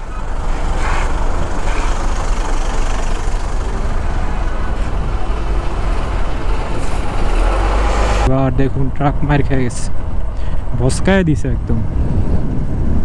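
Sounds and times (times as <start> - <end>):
rumble of trucks and buses: 0.0 - 13.0.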